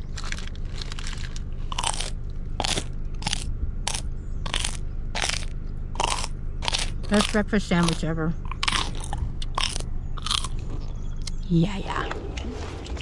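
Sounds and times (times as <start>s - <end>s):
person chewing crunchy food: 0.0s - 11.4s.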